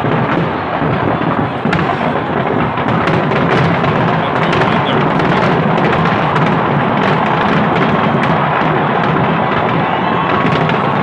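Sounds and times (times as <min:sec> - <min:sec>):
fireworks booming: 0:00.0 - 0:11.0
fireworks sharp cracks: 0:00.0 - 0:11.0.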